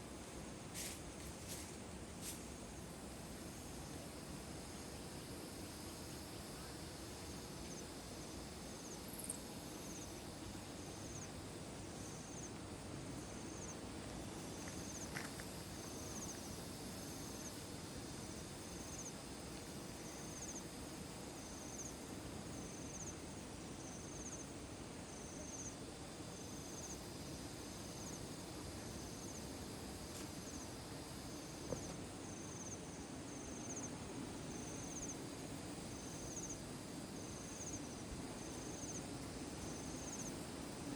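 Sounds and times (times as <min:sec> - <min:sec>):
cricket chirping: 0:03.0 - 0:40.9.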